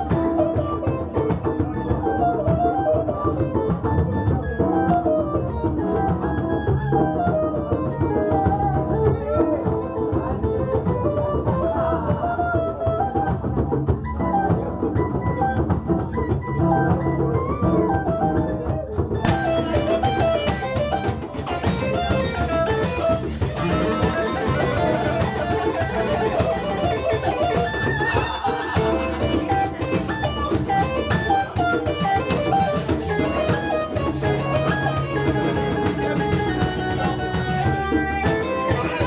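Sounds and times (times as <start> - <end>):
live band playing instrumental music: 0.0 - 39.0.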